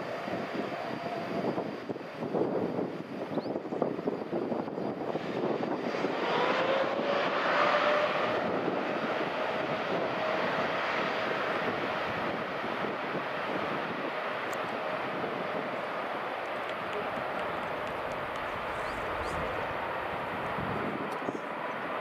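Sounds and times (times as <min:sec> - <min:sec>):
jet engines at takeoff thrust: 0:00.0 - 0:22.0.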